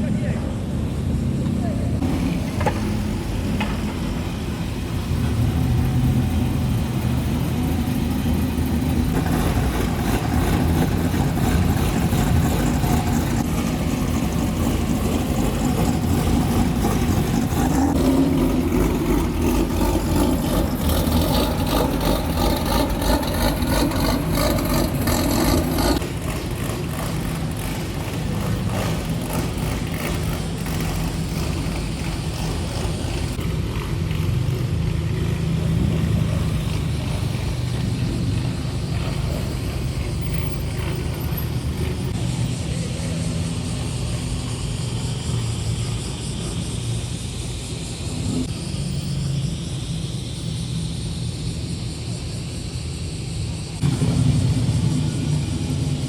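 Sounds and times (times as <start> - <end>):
car engines and exhausts: 0.0 - 56.0.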